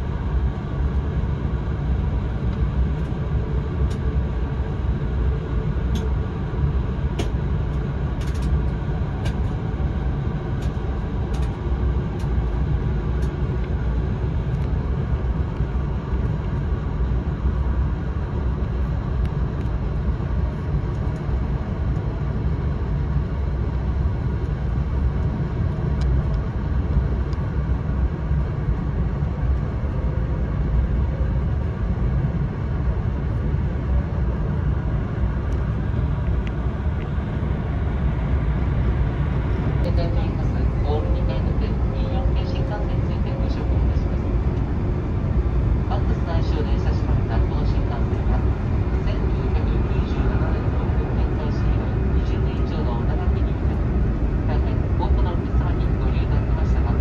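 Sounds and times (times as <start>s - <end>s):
train running low rumble: 0.0s - 57.0s.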